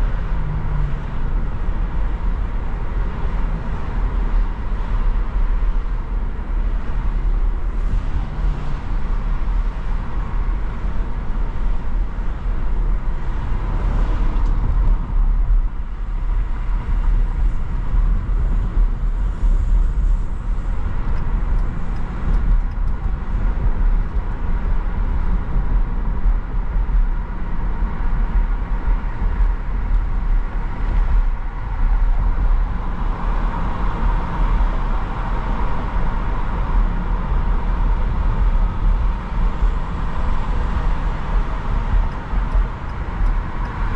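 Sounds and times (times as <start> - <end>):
car driving: 0.0 - 43.9.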